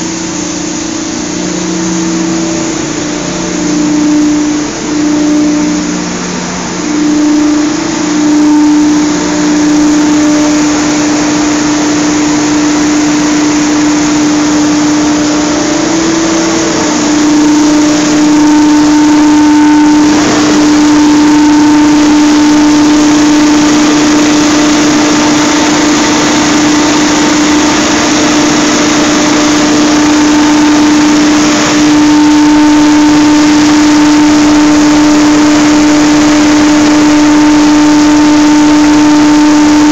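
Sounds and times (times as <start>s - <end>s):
blower machine drone: 0.0s - 39.9s.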